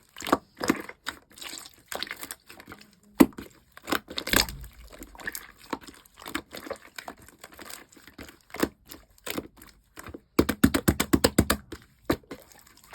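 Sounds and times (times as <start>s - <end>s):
slime squishing with sticky pops: 0.0s - 12.9s.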